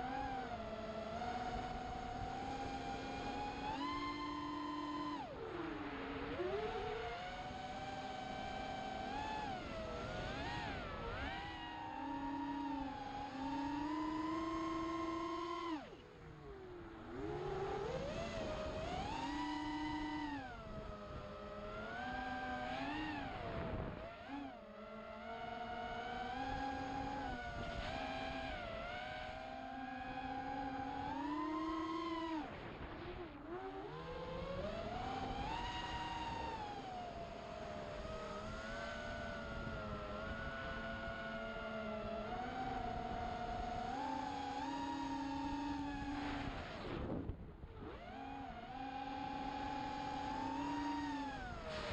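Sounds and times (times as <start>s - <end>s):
quadcopter motors whining: 0.0s - 51.9s.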